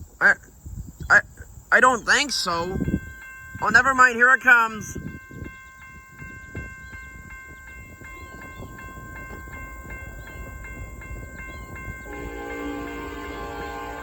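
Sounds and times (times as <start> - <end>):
freight train rumble: 1.1 - 14.0
crossing warning bell ringing: 1.7 - 14.0.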